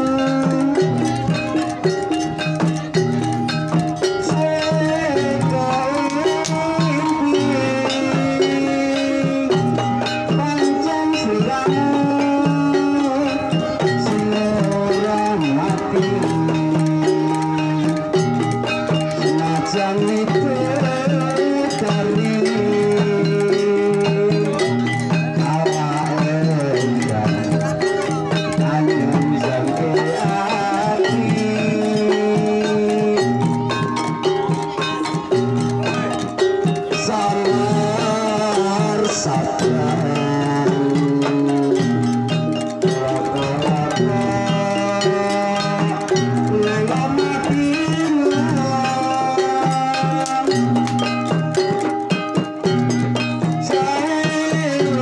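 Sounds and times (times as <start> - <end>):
gongs and metallophones struck: 0.0 - 55.0
hand drums: 0.0 - 55.0
pitched percussion tones: 0.0 - 55.0.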